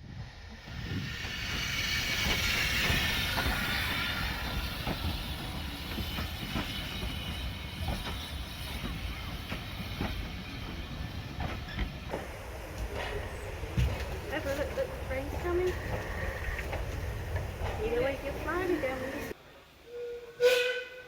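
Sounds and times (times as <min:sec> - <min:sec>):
steam hissing: 0:00.0 - 0:19.4
train rumbling: 0:00.0 - 0:21.0
wheels clicking on rails: 0:00.5 - 0:19.4.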